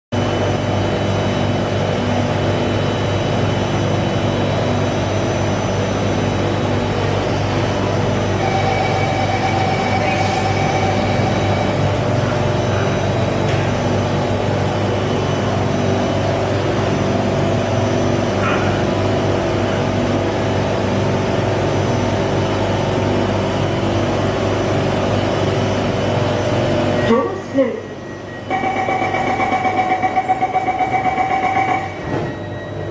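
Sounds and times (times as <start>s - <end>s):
low train rumble: 0.2s - 32.9s
metro train motor hum: 0.2s - 32.9s.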